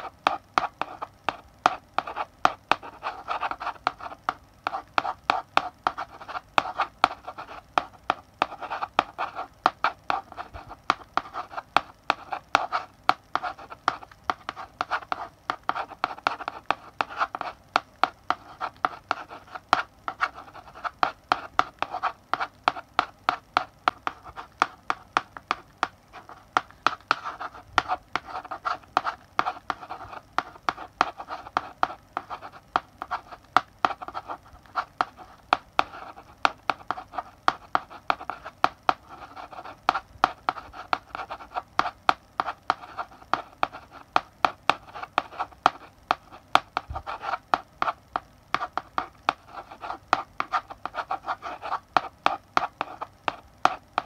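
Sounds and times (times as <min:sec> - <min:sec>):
chalk scratching on blackboard: 0:00.0 - 0:54.0
chalk tapping on blackboard: 0:00.0 - 0:54.0.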